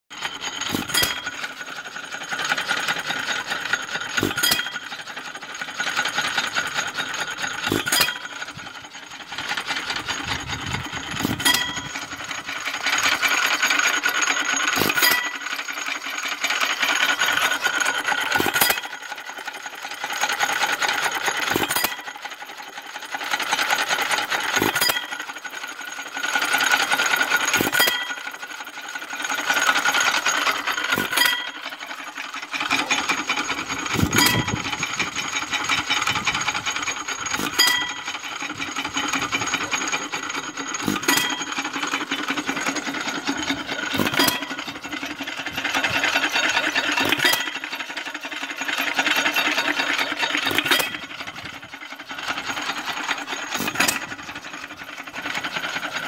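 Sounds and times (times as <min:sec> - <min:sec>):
mechanical clatter of valve gear: 0:00.2 - 0:56.0.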